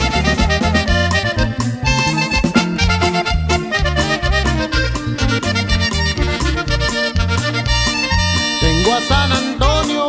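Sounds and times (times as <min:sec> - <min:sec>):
latin band instrumental music: 0:00.0 - 0:10.0.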